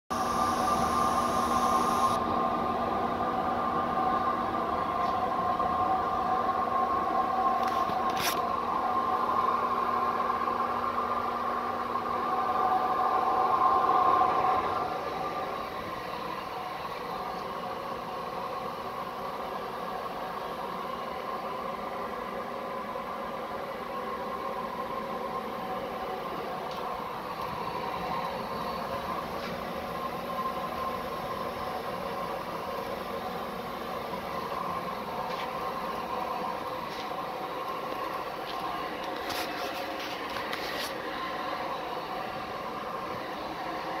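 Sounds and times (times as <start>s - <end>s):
oil stove burning with rushing hum: 0.1s - 44.0s.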